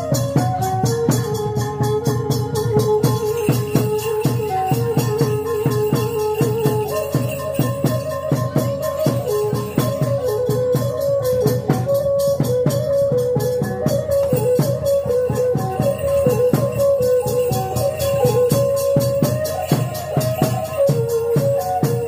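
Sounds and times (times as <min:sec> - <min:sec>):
held melody line: 0:00.0 - 0:22.0
rapid percussion strikes: 0:00.0 - 0:22.0.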